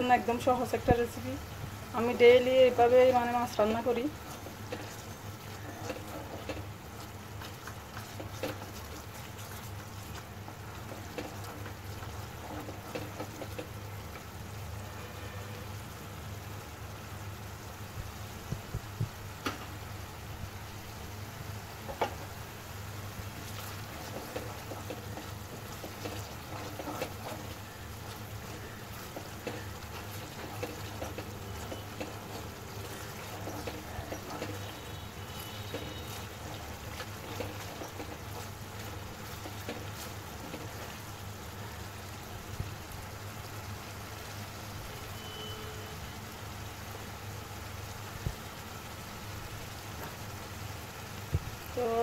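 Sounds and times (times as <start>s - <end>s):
thick sauce bubbling in a pot: 0.0s - 52.0s.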